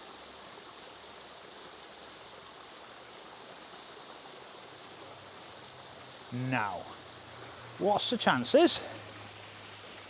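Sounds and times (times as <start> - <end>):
stream over small waterfall: 0.0 - 10.0.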